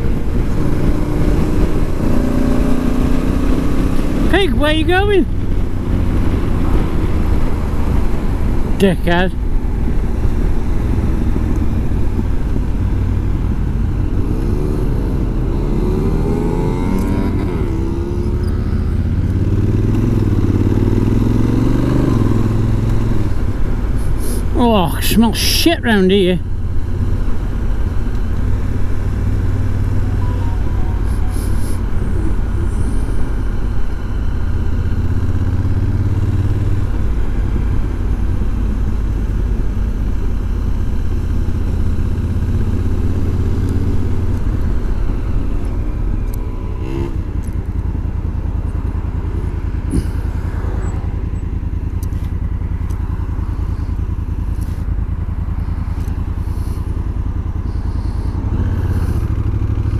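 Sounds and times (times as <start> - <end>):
motorcycle engine running: 0.0 - 25.0, 26.3 - 59.9.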